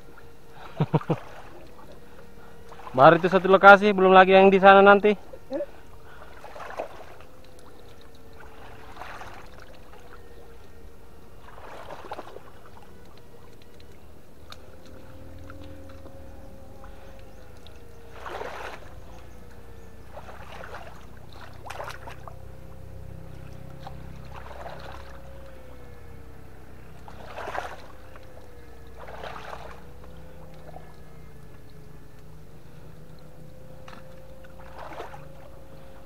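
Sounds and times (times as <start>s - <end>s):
thin high hum: 0.0s - 36.0s
water splashing and sloshing: 0.0s - 36.0s.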